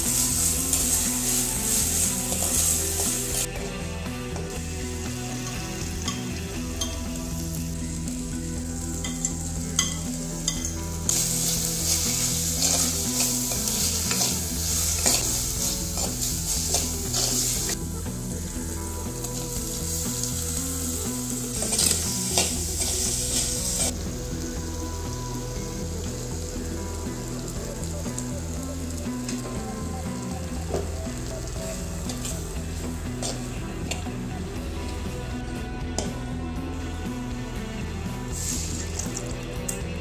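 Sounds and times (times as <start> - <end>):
food sizzling in hot oil: 0.0 - 37.5, 38.1 - 39.8.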